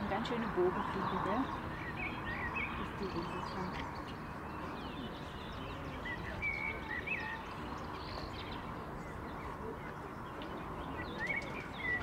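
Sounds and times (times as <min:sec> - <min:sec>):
birds chirping: 0:00.0 - 0:12.0
outdoor background noise: 0:00.0 - 0:12.0.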